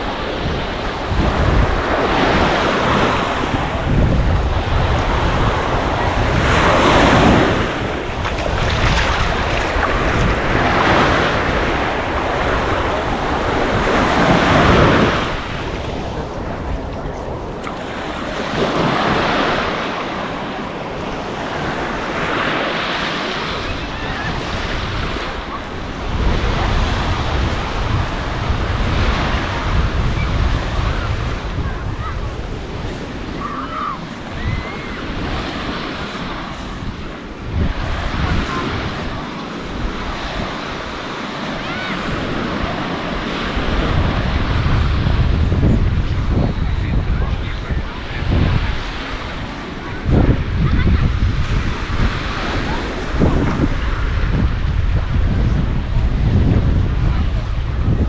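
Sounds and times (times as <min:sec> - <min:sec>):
waves washing onto shore: 0:00.0 - 0:58.0
wind buffeting microphone: 0:00.0 - 0:58.0.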